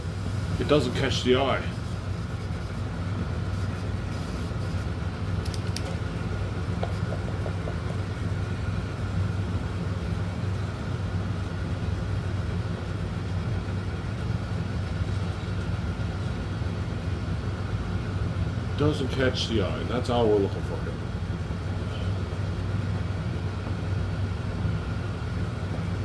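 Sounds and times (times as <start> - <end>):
low machine hum with whine: 0.0 - 26.0.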